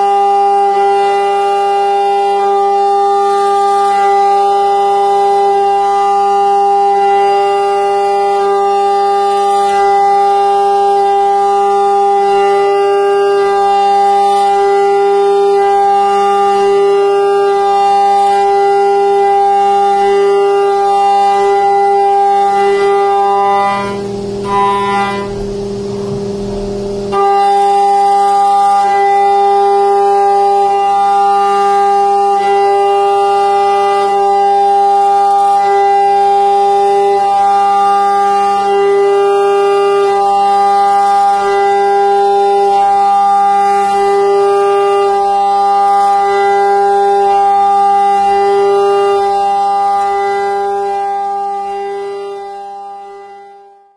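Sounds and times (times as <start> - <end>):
mill spindle whine cutting aluminium: 0.0 - 53.9.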